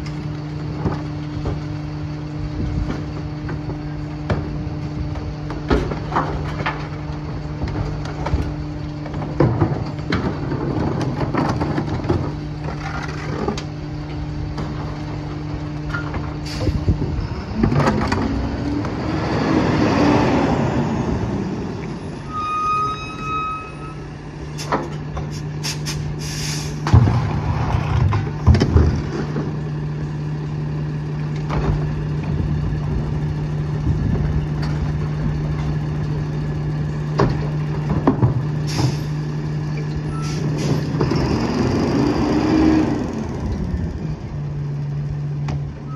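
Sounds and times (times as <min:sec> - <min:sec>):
garbage truck diesel engine: 0:00.0 - 0:45.9.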